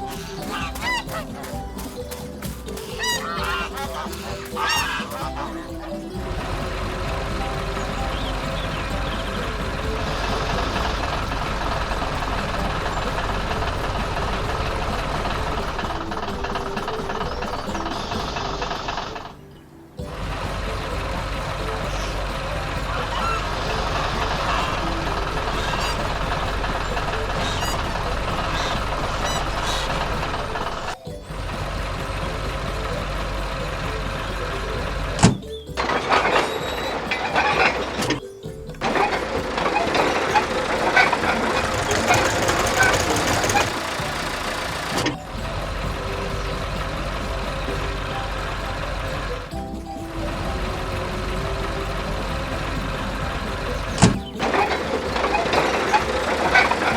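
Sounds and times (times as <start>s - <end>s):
cartoon vehicle engine chugging: 0.0s - 56.9s
knocks and rattles: 0.0s - 56.9s.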